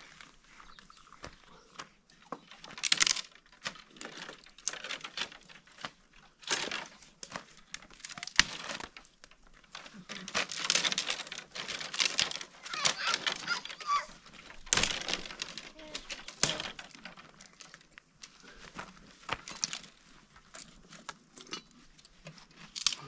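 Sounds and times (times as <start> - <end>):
dry branches cracking and snapping: 0.0 - 23.0
twigs rustling and scraping: 0.0 - 23.0.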